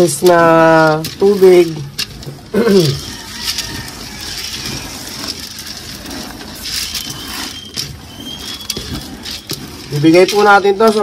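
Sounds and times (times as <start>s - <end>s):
hand stirring grain in metal pot: 0.0s - 11.0s.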